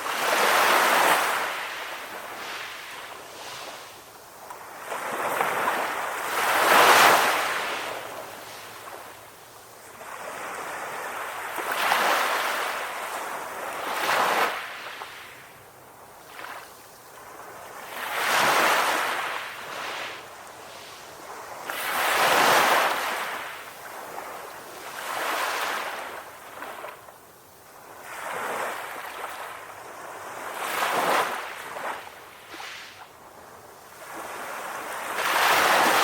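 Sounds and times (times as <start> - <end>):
sea waves breaking on beach: 0.0 - 9.2, 9.8 - 15.4, 16.2 - 27.0, 27.8 - 33.1, 33.9 - 36.0.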